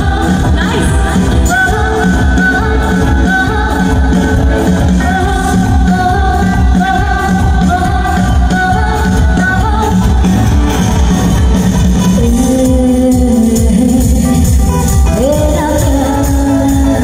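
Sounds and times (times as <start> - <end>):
woman singing into microphone: 0.0 - 10.8, 12.0 - 17.0
live band playing: 0.0 - 17.0.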